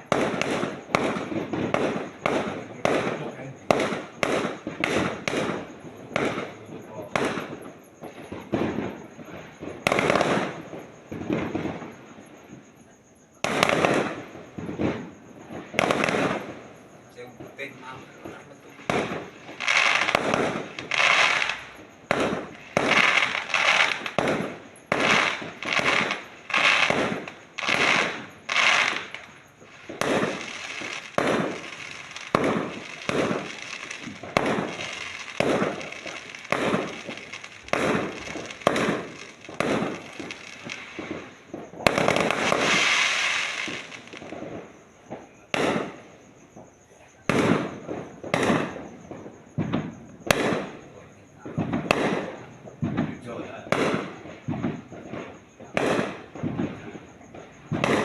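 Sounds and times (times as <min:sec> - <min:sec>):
fireworks bursting: 0:00.0 - 0:58.0
fireworks crackling: 0:00.0 - 0:58.0.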